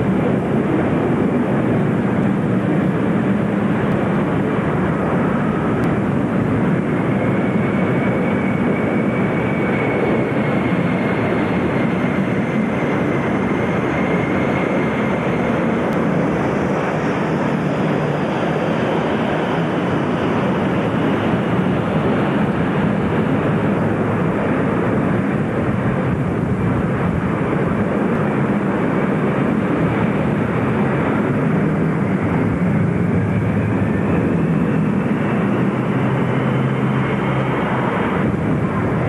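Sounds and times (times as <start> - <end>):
jet airliner engines roaring: 0.0 - 39.0
rising engine whine: 0.0 - 39.0.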